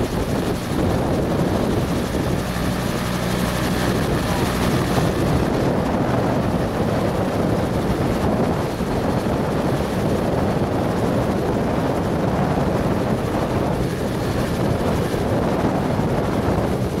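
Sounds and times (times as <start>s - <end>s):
helicopter idling: 0.0s - 17.0s.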